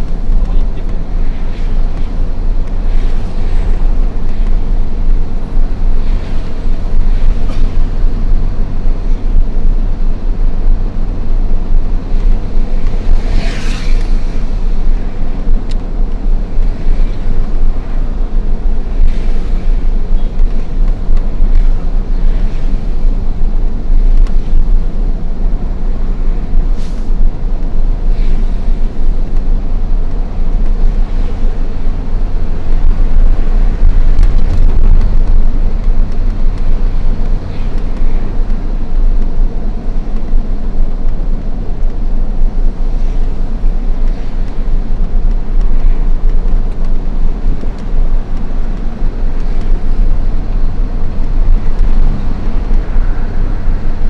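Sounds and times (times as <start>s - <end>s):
road noise: 0.0s - 54.0s
truck diesel engine rumbling: 0.0s - 54.0s.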